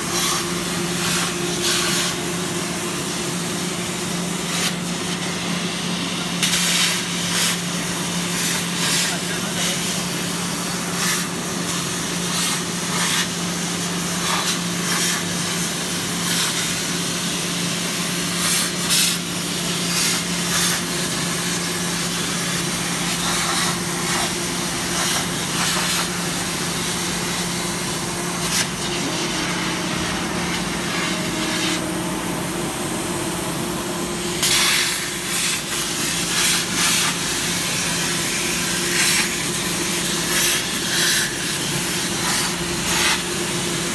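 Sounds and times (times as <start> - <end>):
plasma cutter hissing and crackling: 0.0 - 32.8, 34.1 - 43.9.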